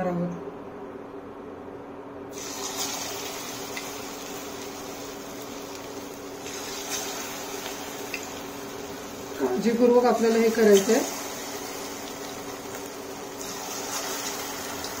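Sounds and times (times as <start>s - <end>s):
food sizzling in hot oil: 2.3s - 15.0s.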